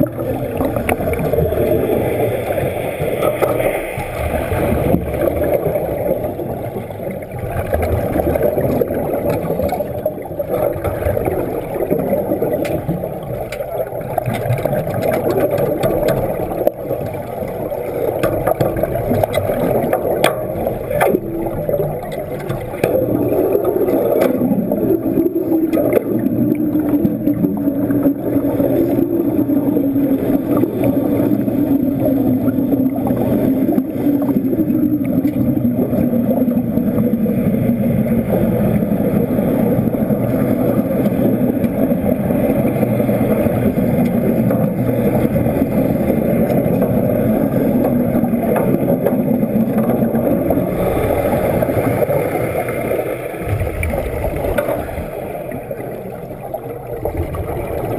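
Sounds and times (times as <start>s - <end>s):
mechanical drone underwater: 0.0s - 57.9s.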